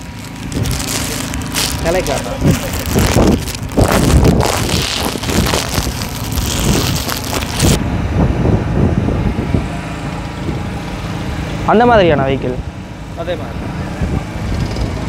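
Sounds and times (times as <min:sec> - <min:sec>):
wind noise on microphone: 0:00.0 - 0:10.8, 0:13.6 - 0:15.0
go-kart engines running: 0:00.0 - 0:15.0.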